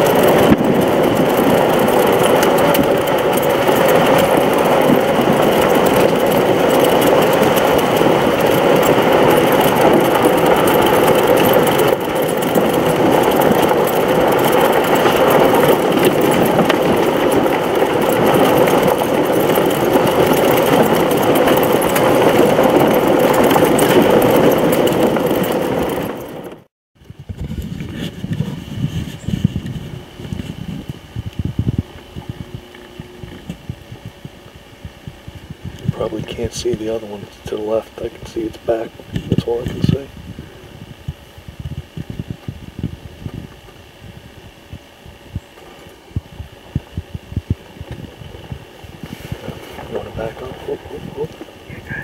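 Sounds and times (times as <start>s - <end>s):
electric motor and drivetrain hum: 0.0s - 52.0s.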